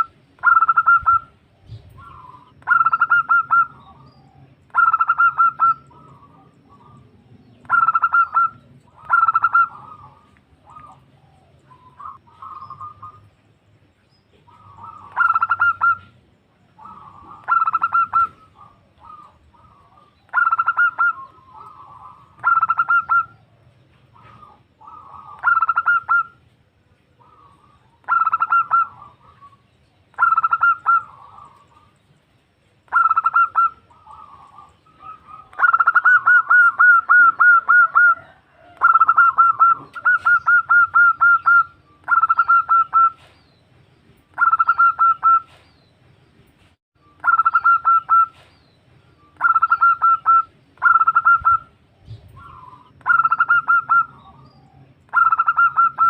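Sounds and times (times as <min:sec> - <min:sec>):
dove pulsing coo calls: 0:00.0 - 0:13.6, 0:14.3 - 0:32.0, 0:32.8 - 0:43.4, 0:44.3 - 0:45.8, 0:47.0 - 0:56.0.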